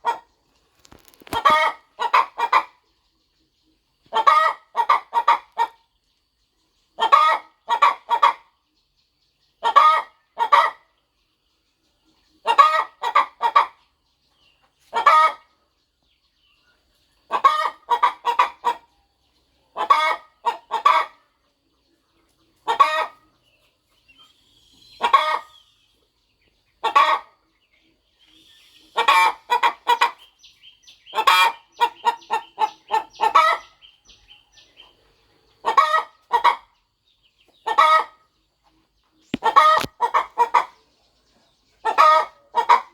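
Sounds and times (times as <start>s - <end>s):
hen clucking: 0.0s - 3.1s, 4.0s - 5.9s, 7.0s - 8.6s, 9.6s - 11.0s, 12.3s - 15.7s, 17.2s - 19.0s, 19.6s - 21.4s, 22.1s - 42.9s.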